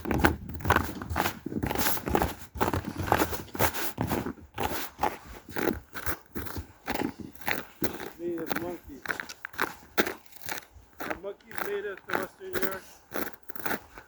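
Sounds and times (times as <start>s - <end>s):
footsteps crunching through snow: 0.0s - 14.0s.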